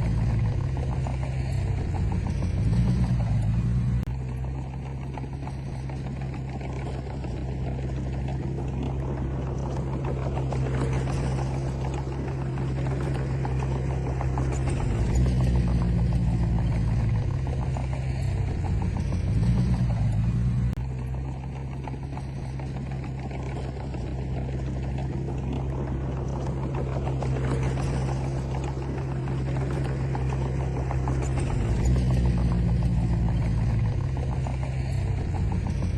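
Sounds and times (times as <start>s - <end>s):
bulldozer diesel engine working: 0.0s - 35.9s.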